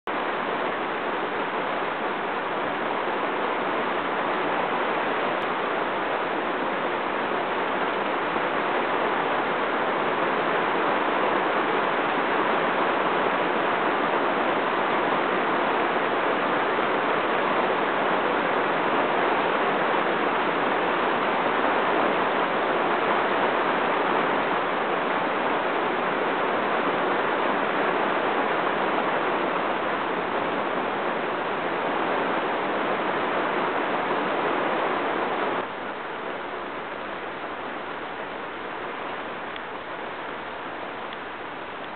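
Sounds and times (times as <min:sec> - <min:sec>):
heavy rain on water and mud: 0:00.1 - 0:41.9.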